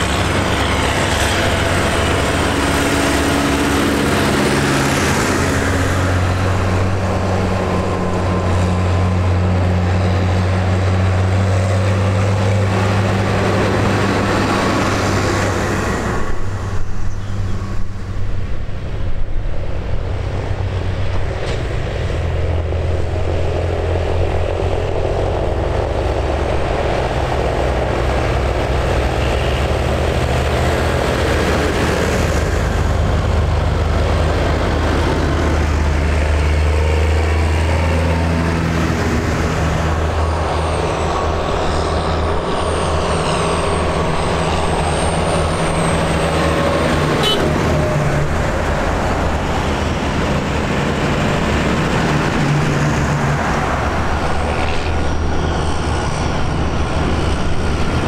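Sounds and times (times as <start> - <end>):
tractors driving past: 0.0 - 58.0.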